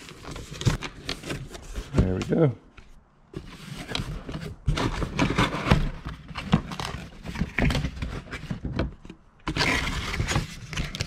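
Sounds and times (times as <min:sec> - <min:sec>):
cardboard rustling and scraping: 0:00.0 - 0:02.6, 0:03.3 - 0:11.0.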